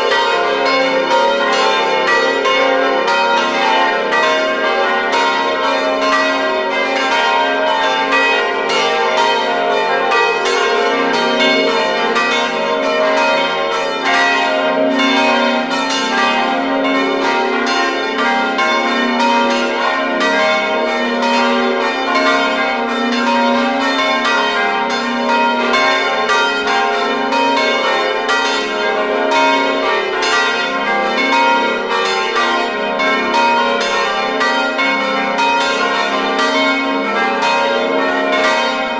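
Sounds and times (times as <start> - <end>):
large bronze bells pealing: 0.0 - 38.9.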